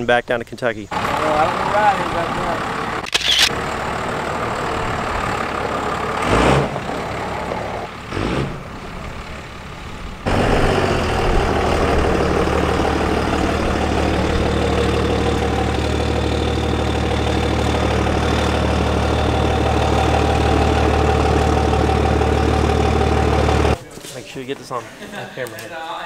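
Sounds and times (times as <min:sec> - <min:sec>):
diesel pickup idling: 0:00.9 - 0:23.8
diesel pickup pulling away: 0:00.9 - 0:23.8
engine throttle bursts: 0:00.9 - 0:23.8.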